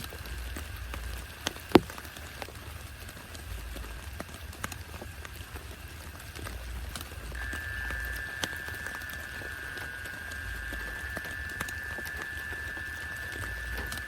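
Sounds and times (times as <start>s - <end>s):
low steady rumble: 0.0s - 14.0s
rain dripping and tapping: 0.0s - 14.0s.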